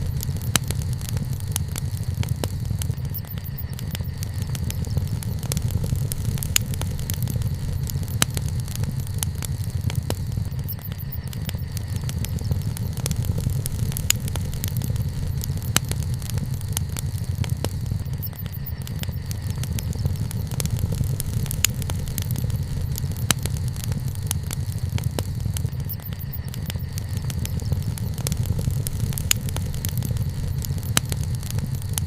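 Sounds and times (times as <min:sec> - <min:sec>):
bonfire popping and crackling: 0:00.0 - 0:32.0
fire low rumble: 0:00.0 - 0:32.0.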